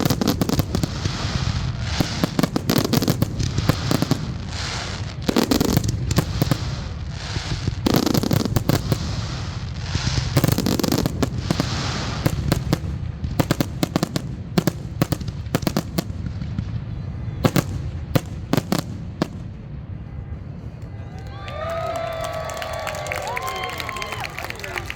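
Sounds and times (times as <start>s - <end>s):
fireworks bursts and crackling: 0.0s - 24.9s.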